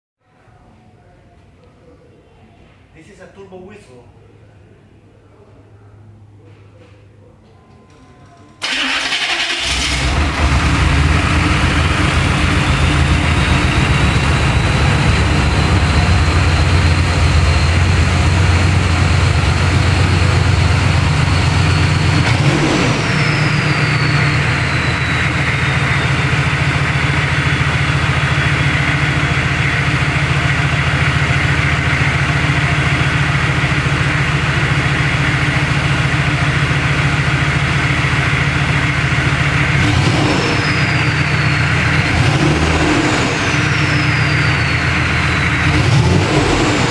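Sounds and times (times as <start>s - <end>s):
diesel engine running unmuffled: 8.6s - 46.9s
turbocharger whistling: 8.6s - 46.9s.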